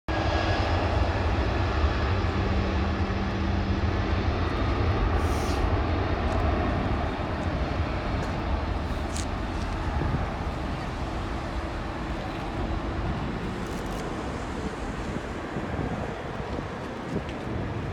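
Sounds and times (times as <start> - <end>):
jet engines roaring: 0.1 - 17.9.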